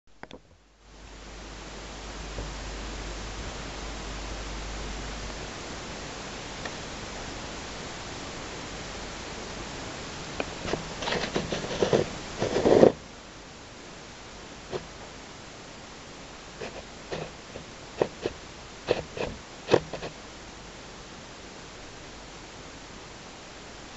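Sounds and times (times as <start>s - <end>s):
microphone hiss: 0.1s - 23.9s.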